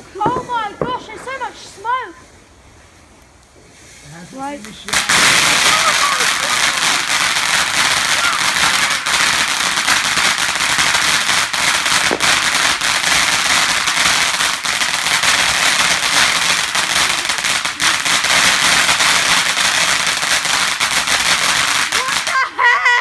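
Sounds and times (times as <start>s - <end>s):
firework crackling: 0.0s - 23.0s.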